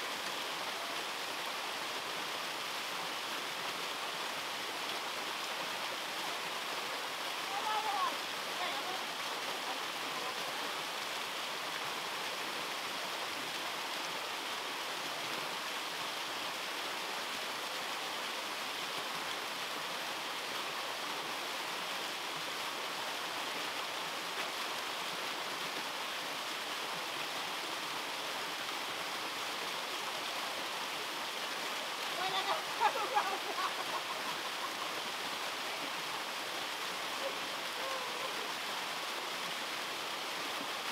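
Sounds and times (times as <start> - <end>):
waterfall pouring over rocks: 0.0 - 40.9.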